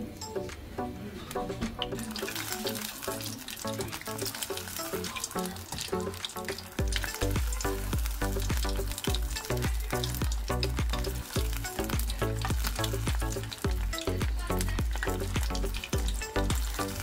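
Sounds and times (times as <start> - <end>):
background music with bass: 0.0 - 17.0
eggs deep-frying in oil: 1.8 - 17.0.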